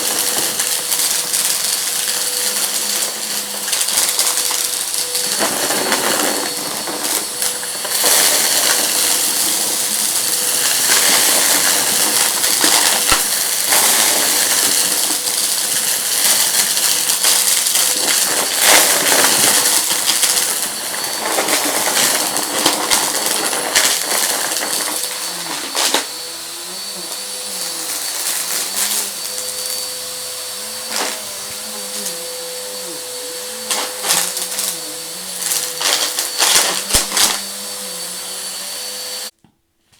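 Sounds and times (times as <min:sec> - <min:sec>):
debris crackling in vacuum: 0:00.0 - 0:39.3
vacuum cleaner motor humming: 0:00.0 - 0:39.4.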